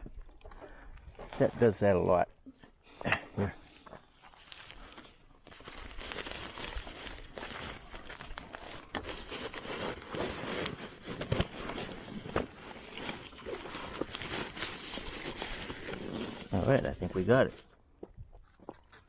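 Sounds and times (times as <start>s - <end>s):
rustling and crinkling: 3.5s - 19.0s.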